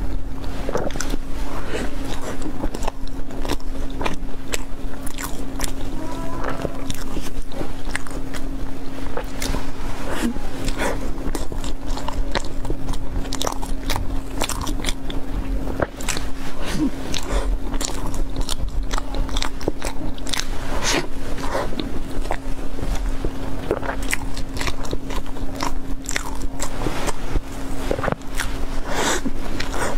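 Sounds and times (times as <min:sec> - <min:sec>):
person chewing a roll: 0:00.0 - 0:29.9
steady low hum: 0:00.0 - 0:29.9.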